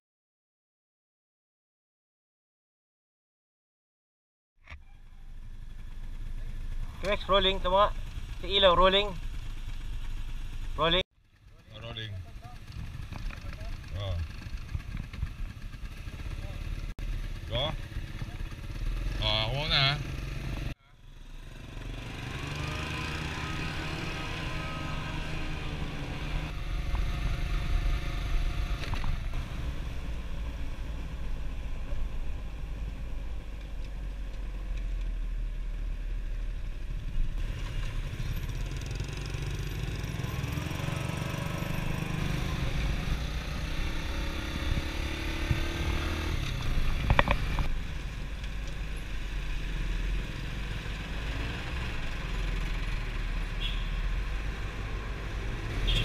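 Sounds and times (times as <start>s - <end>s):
road and wind rumble: 4.7s - 56.0s
motorcycle engines revving: 5.0s - 56.0s.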